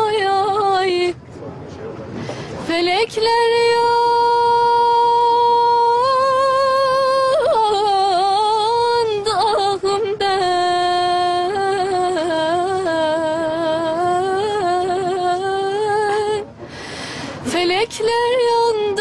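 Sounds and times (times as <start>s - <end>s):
woman singing unaccompanied: 0.0s - 1.2s, 2.7s - 16.4s, 17.4s - 19.0s.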